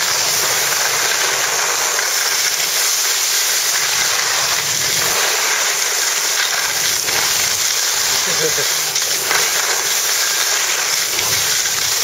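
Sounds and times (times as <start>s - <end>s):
skis running over snow: 0.0s - 12.0s.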